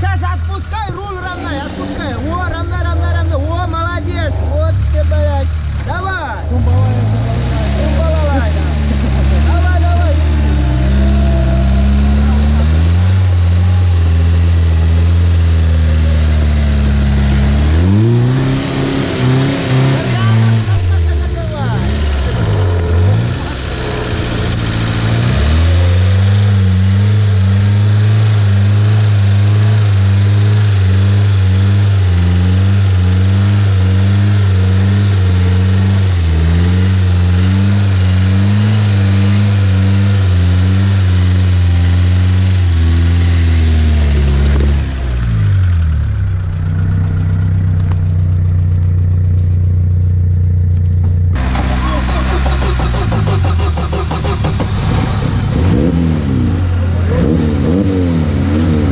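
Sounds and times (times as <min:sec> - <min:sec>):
off-road vehicle engine revving: 0:00.0 - 0:58.9.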